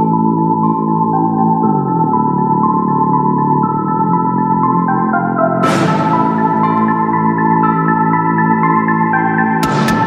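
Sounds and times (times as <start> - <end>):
keyboard melody: 0.0 - 9.7
sustained low chords: 0.1 - 10.0.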